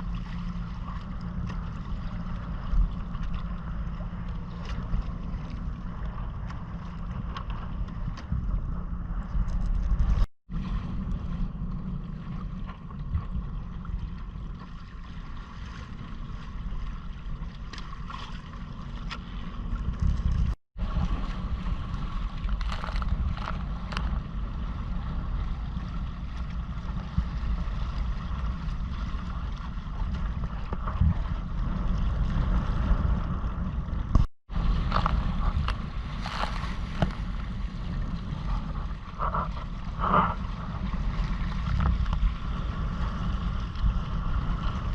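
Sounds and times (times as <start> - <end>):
water lapping against hull: 0.0 - 44.9
wind buffeting microphone: 0.0 - 44.9.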